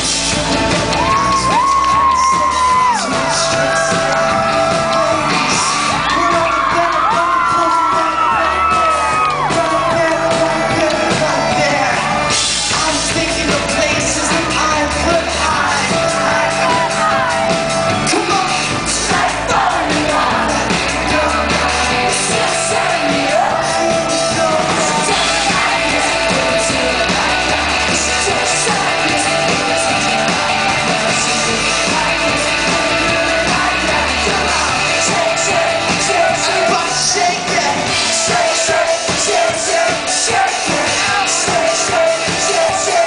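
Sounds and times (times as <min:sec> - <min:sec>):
live pop-rock band with singer: 0:00.0 - 0:43.0
crowd yelling along: 0:00.4 - 0:43.0.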